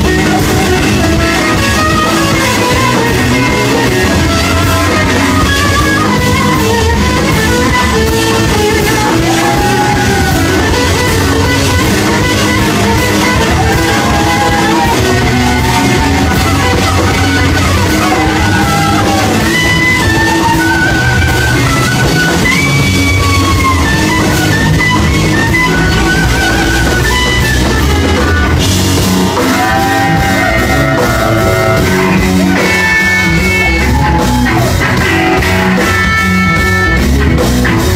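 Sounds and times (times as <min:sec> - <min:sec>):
bass guitar: 0:00.0 - 0:37.9
drums: 0:00.0 - 0:37.9
electric guitar bending notes: 0:00.0 - 0:37.9.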